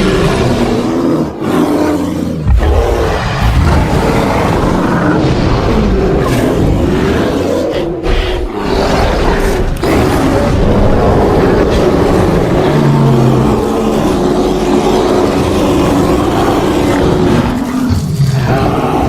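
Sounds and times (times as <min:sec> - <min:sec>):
creature roars and growls: 0:00.0 - 0:19.0.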